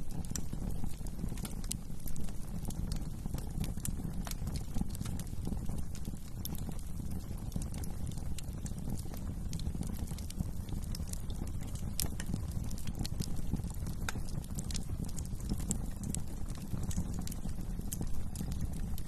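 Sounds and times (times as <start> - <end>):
fire flames rumbling: 0.0 - 19.0
fire popping and snapping: 0.0 - 19.0.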